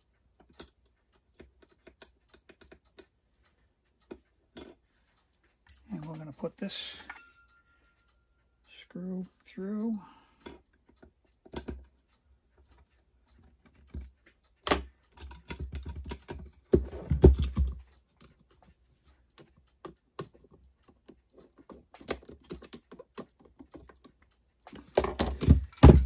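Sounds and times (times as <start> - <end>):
small clicks and taps of metal parts: 0.0 - 8.8, 9.4 - 26.0.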